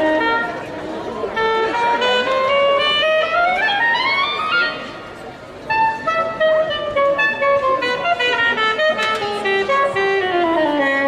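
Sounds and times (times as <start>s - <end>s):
jazz band playing: 0.0s - 11.0s
wind instrument melody: 0.0s - 11.0s.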